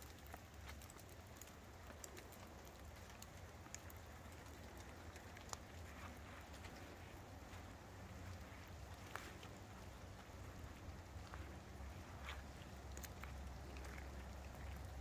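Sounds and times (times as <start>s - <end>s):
faint ticks and clicks: 0.0s - 15.0s
low steady hum: 0.0s - 15.0s.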